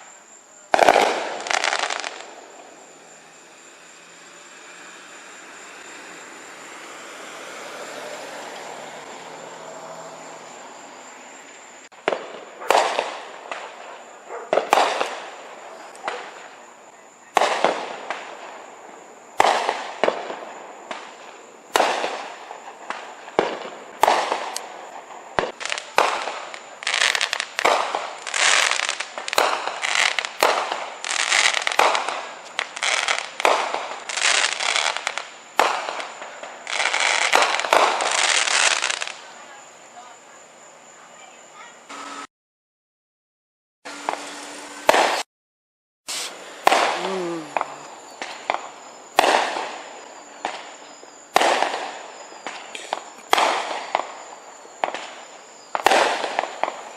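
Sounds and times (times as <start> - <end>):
fireworks hissing: 0.0 - 40.1, 43.9 - 45.3, 46.1 - 56.9
fireworks bangs: 0.0 - 40.2, 43.9 - 45.3, 46.1 - 56.9.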